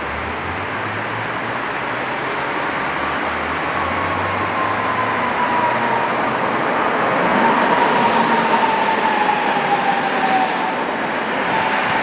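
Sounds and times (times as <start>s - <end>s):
tram rumbling on rails: 0.0s - 12.0s.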